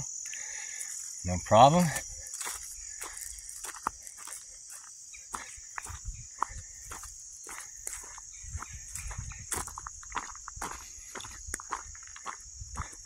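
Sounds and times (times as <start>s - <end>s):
insects chirping: 0.0s - 13.0s
footsteps on dirt trail: 0.1s - 13.0s.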